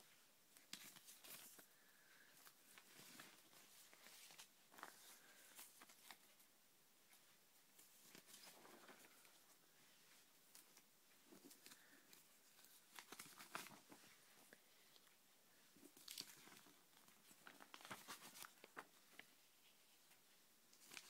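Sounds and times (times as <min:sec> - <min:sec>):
glossy paper rustling and crinkling: 0:00.0 - 0:06.5, 0:07.1 - 0:21.0.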